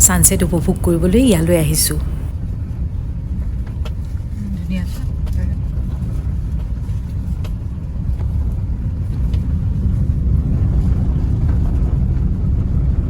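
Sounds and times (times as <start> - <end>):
car road rumble from inside: 0.0 - 13.0.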